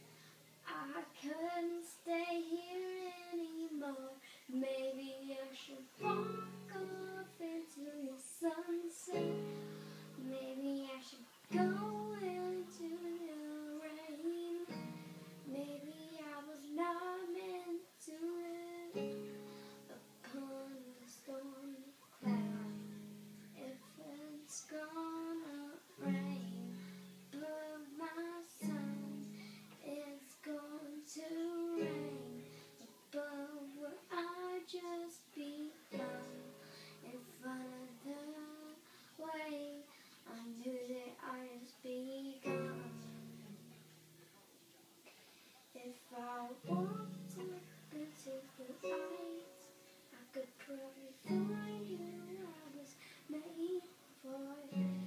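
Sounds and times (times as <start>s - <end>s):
girl singing: 0.0s - 43.9s, 45.7s - 55.0s.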